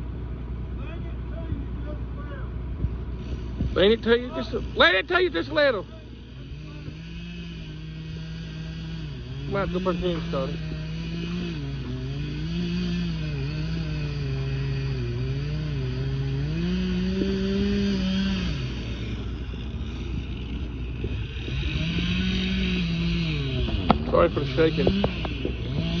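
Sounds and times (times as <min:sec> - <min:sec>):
chainsaw cutting into wood: 0:03.0 - 0:26.0.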